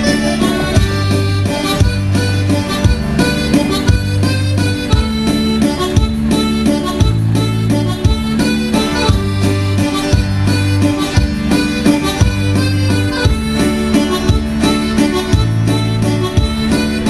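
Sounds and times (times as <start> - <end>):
instrumental dance music: 0.0 - 17.0.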